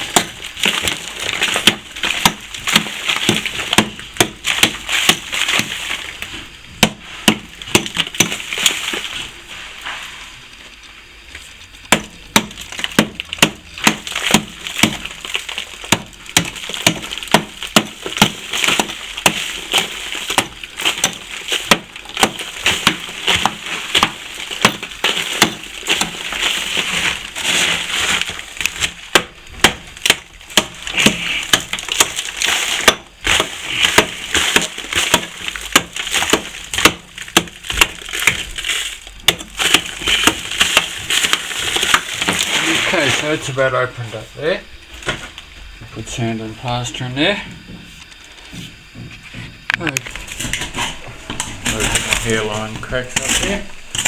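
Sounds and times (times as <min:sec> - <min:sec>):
plaster scraping and crumbling: 0:00.0 - 0:46.4, 0:47.5 - 0:54.0.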